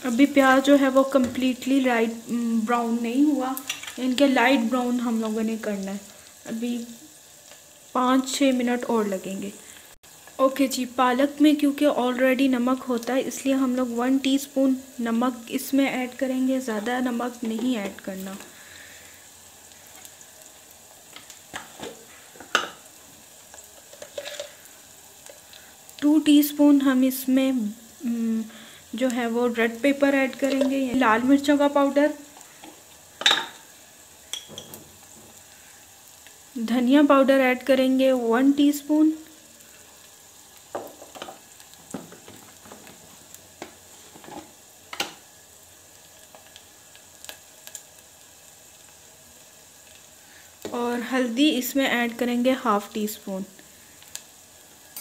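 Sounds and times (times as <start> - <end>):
onions sizzling in oil: 0.0 - 55.0.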